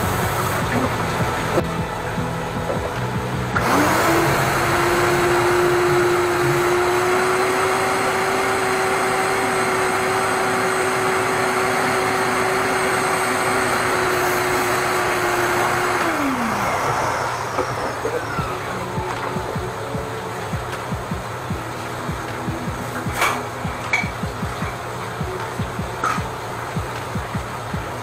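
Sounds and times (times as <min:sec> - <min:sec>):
wet dry vacuum running: 0:00.0 - 0:28.0.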